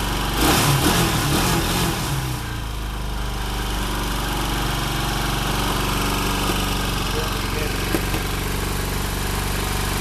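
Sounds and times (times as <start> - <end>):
quad engine idling: 0.0 - 0.4, 2.2 - 10.0.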